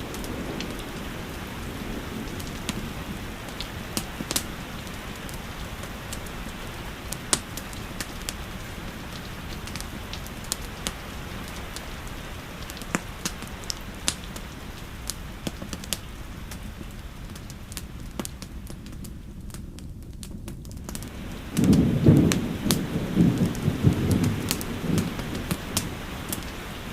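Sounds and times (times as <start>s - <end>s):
steady rainfall: 0.0s - 26.9s
wood fire crackling: 0.0s - 26.9s.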